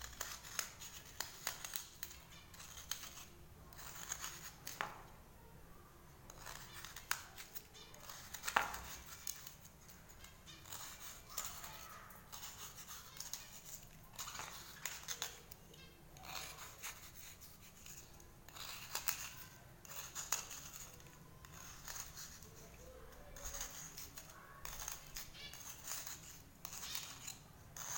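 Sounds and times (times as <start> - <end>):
knife scraping cuttlefish bone: 0.0 - 5.1, 6.3 - 27.9.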